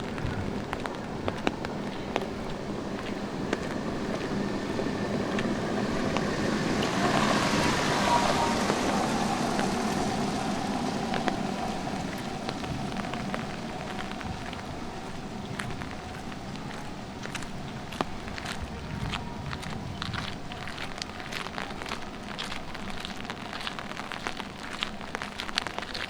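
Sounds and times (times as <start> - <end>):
car tyres hissing on wet street: 0.0 - 26.0
footstep clicks: 0.0 - 26.0
light rain: 0.0 - 26.0.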